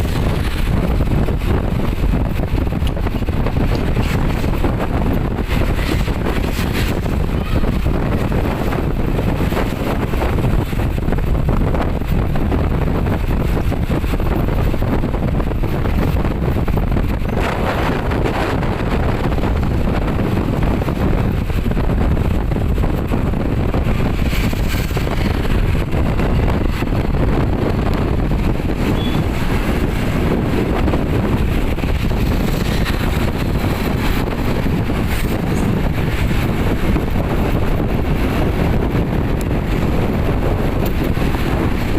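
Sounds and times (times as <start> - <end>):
vehicle running: 0.0 - 41.9
wind rumble on microphone: 0.0 - 41.9.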